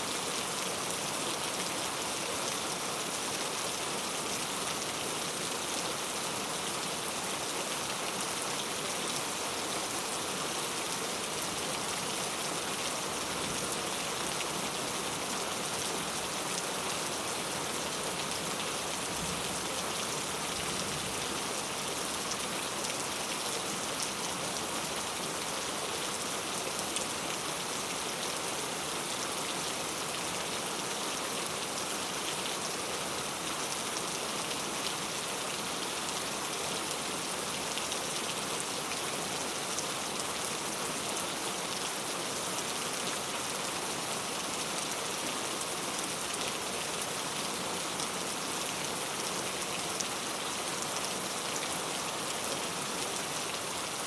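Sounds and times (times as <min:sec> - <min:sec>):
heavy rain on street: 0:00.0 - 0:54.0.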